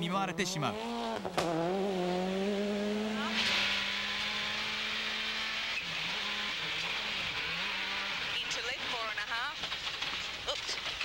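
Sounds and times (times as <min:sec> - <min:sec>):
rally car engine revving: 0:00.0 - 0:10.2.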